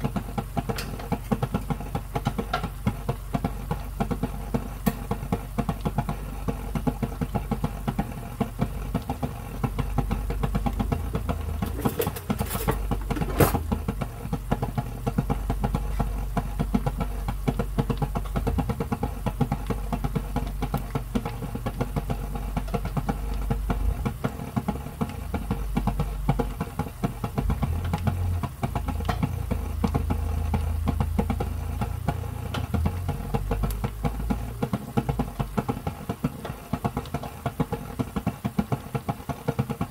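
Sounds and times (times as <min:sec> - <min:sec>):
steady hum: 0:00.0 - 0:38.2
sauce bubbling in a frying pan: 0:00.0 - 0:39.9.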